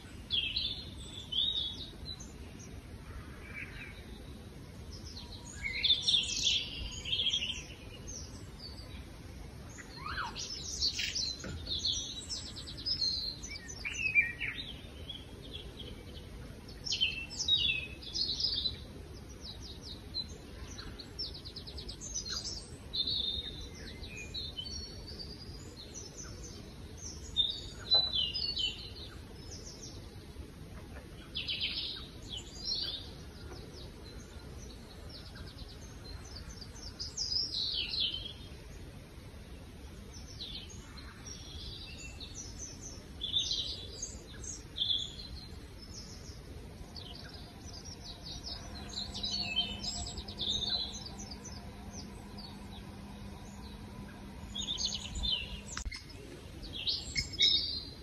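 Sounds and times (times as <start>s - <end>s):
birds chirping and singing: 0.0s - 38.8s, 40.0s - 58.0s
steady low hiss: 0.0s - 58.0s.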